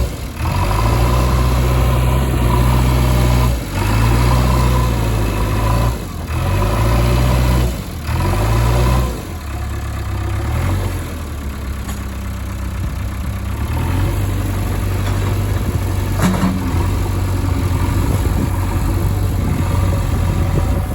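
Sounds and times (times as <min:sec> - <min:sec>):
heavy diesel engine revving: 0:00.0 - 0:20.9.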